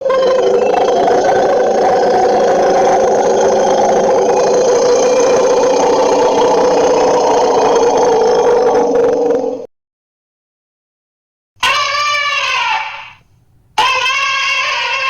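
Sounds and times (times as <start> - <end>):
rough rattling creature call: 0.0 - 9.6, 11.6 - 13.2, 13.8 - 15.0.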